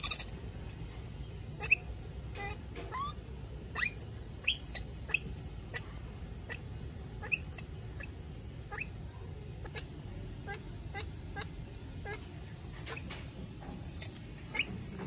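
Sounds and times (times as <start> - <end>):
baby monkey squeaking: 1.6 - 9.0, 9.6 - 15.0.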